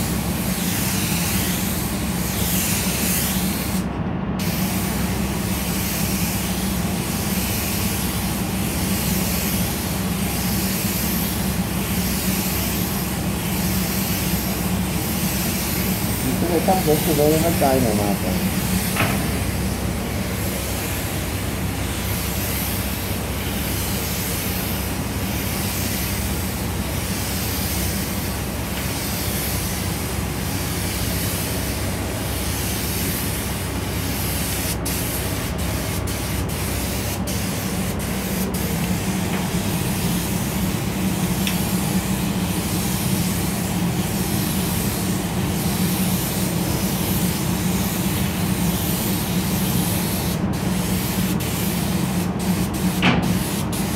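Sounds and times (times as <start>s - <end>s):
paint spray gun hissing: 0.0s - 3.8s, 4.4s - 53.9s
steady low hum: 0.0s - 53.9s.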